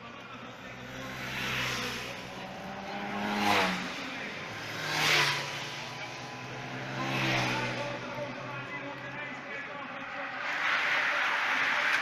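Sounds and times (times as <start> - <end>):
vehicles passing by: 0.0 - 12.0.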